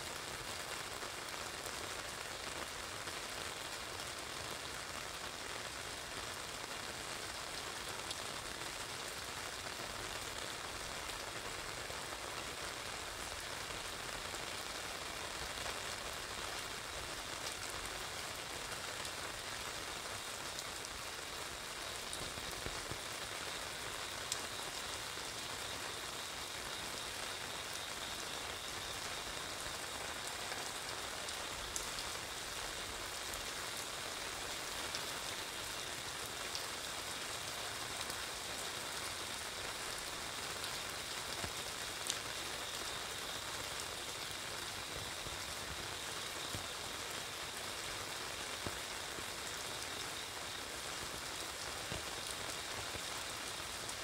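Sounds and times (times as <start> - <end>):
rain on wet street: 0.0 - 54.0
rain pattering on umbrella: 0.0 - 54.0.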